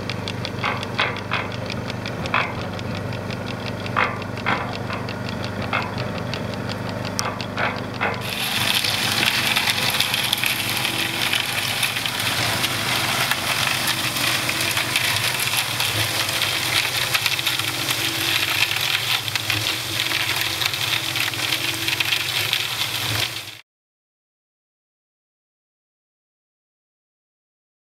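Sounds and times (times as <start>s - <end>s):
concrete mixer drum rattling: 0.0s - 23.6s
low hum of mixer drive: 0.0s - 23.6s.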